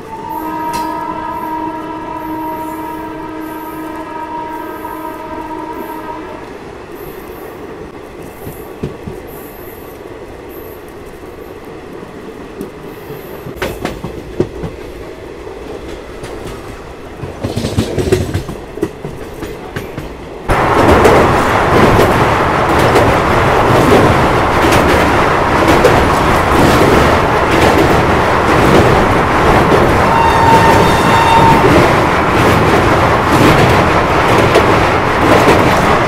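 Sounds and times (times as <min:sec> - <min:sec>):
train rattling over steel bridge: 0:00.0 - 0:36.0
train wheels rumbling and clicking: 0:06.4 - 0:36.0.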